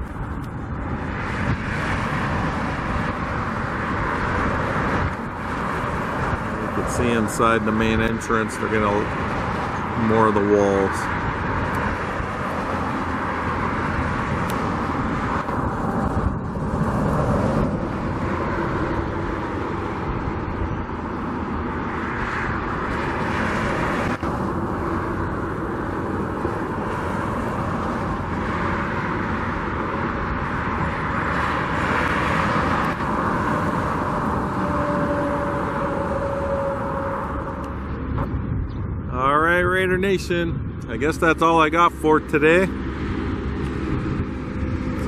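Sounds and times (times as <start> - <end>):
road traffic rumble: 0.0 - 45.0
vehicles passing: 0.0 - 45.0
wind: 0.0 - 45.0.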